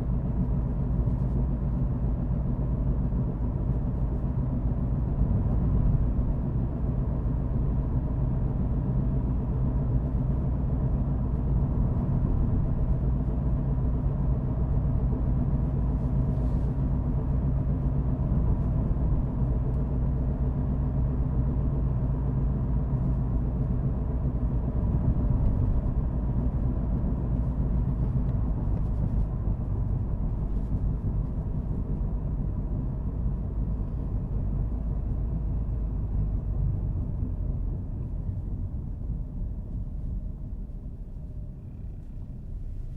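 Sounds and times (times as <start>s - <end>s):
car engine drone: 0.0s - 42.9s
road rumble: 0.0s - 42.9s.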